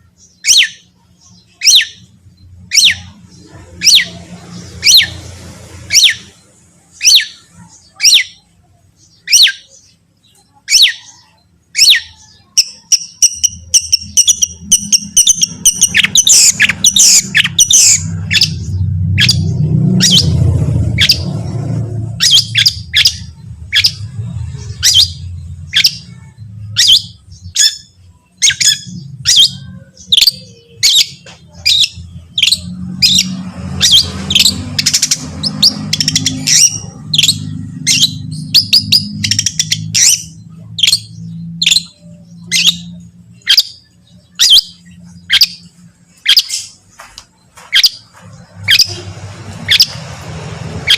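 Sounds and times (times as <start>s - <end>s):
bird calling in harsh notes: 0.0s - 46.9s.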